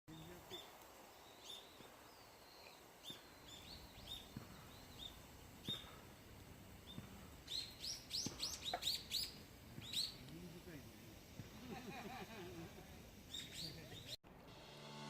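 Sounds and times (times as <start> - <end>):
small birds chirping: 0.1 - 14.2.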